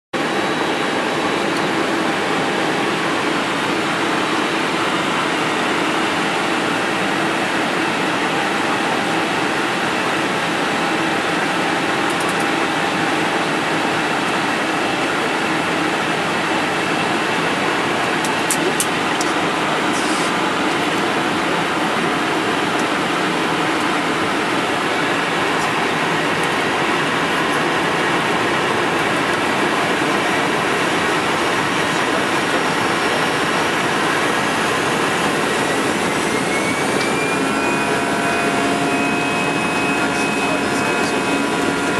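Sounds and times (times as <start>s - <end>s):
jet engines at low power: 0.2s - 41.9s.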